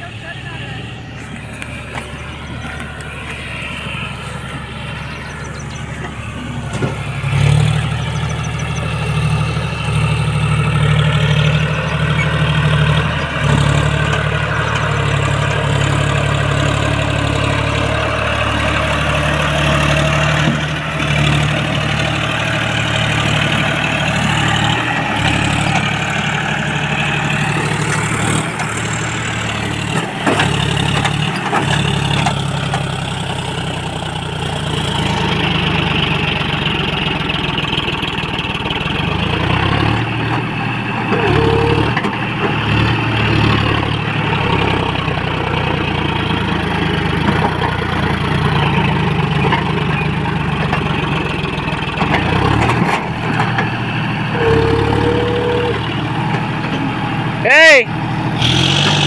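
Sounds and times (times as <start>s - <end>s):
tractor diesel engine labouring: 0.0s - 59.0s.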